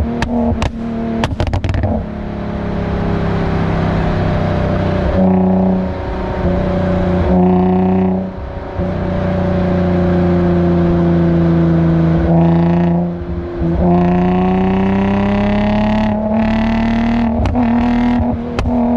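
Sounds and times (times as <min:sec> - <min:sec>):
car engine exhaust note: 0:00.0 - 0:18.9.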